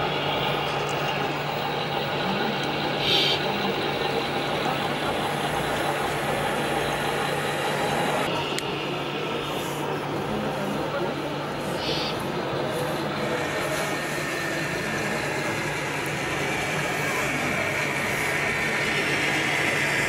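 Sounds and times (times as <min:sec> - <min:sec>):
toy truck engine idling: 0:00.0 - 0:10.6, 0:11.4 - 0:20.0.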